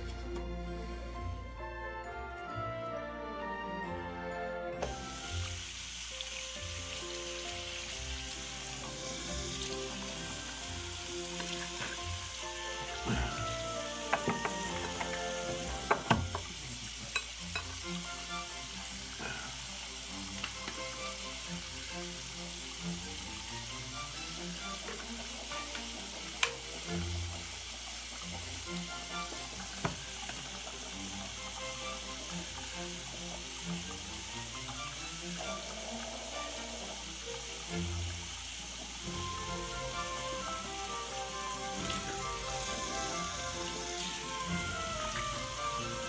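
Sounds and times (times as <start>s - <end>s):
faint music: 0.0s - 46.0s
steady hiss: 4.8s - 46.0s.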